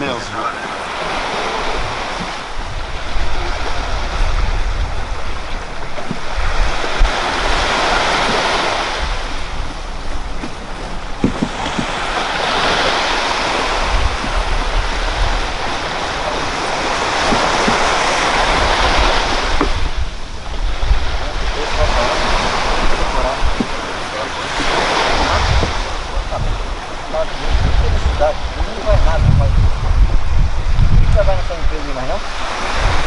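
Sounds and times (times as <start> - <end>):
small waves breaking on sand: 0.0 - 33.0
wind rumbling on microphone: 0.0 - 33.0.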